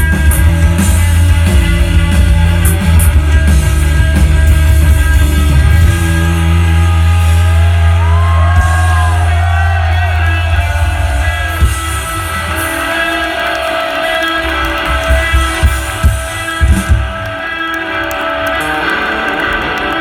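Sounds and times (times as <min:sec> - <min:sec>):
guitar chords with bending notes: 0:00.0 - 0:20.0
heavy bass: 0:00.0 - 0:20.0
live rock band playing: 0:00.0 - 0:20.0.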